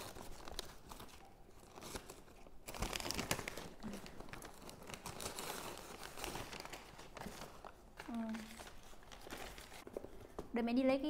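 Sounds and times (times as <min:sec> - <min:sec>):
wrapping paper crinkling: 0:00.0 - 0:10.4.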